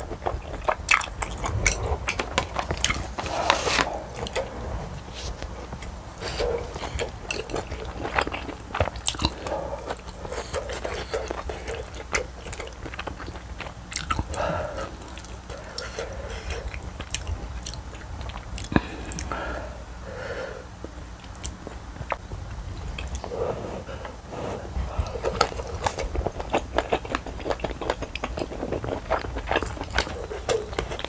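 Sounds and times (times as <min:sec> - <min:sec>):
wet chewing with mouth clicks: 0:00.0 - 0:19.6, 0:20.8 - 0:31.0.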